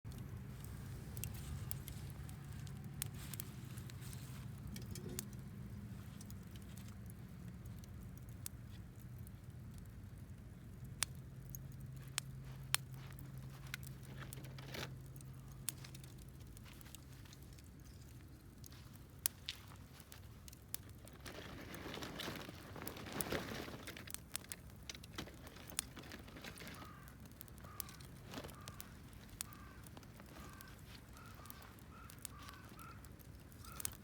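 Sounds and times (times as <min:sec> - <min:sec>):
campfire crackling and popping: 0:00.1 - 0:34.0.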